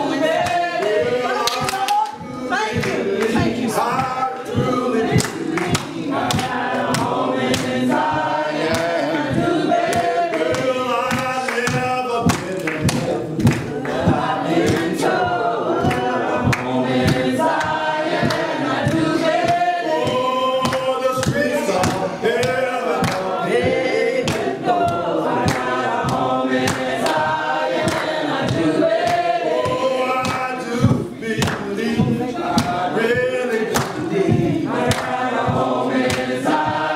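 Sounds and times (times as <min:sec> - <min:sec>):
man singing lead: 0:00.0 - 0:07.0, 0:07.8 - 0:26.2, 0:28.4 - 0:35.7
group of voices singing: 0:00.0 - 0:36.9
sharp rhythmic hits: 0:00.0 - 0:36.9.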